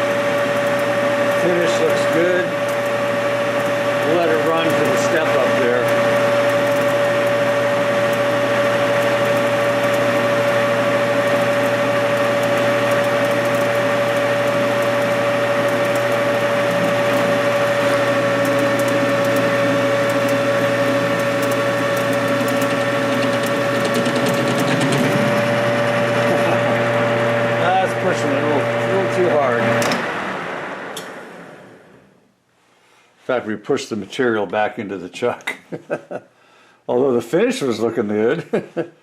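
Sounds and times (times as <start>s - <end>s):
metal lathe whine: 0.0s - 32.0s.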